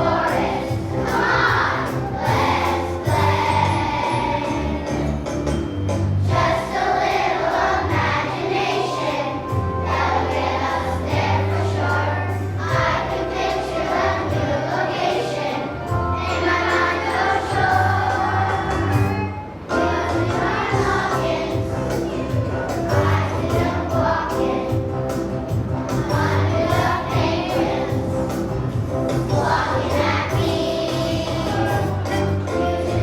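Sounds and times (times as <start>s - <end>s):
children's choir singing: 0.0s - 33.0s
musical accompaniment with bass: 0.0s - 33.0s.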